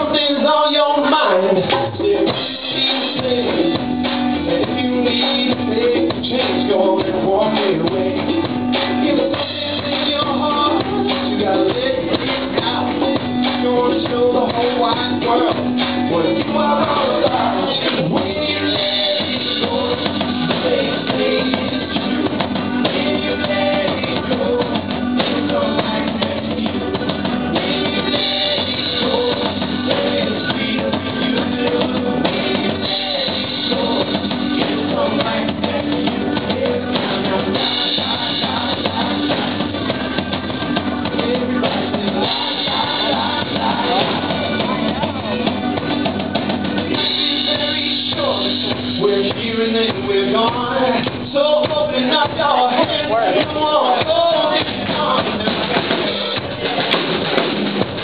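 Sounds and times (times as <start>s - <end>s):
drum kit beat: 0.0s - 58.0s
live band playing: 0.0s - 58.0s.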